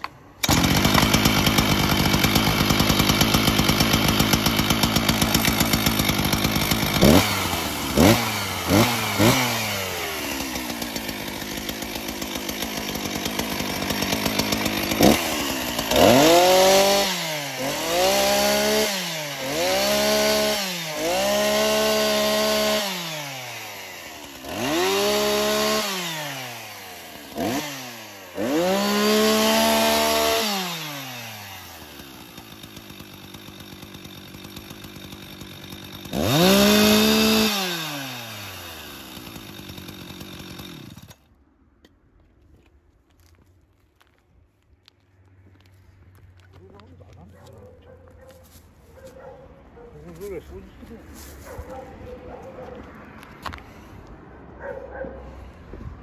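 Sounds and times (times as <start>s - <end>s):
chainsaw revving and idling: 0.0s - 41.3s, 46.4s - 53.9s
chainsaw cutting wooden boards: 0.0s - 41.4s, 46.3s - 56.0s.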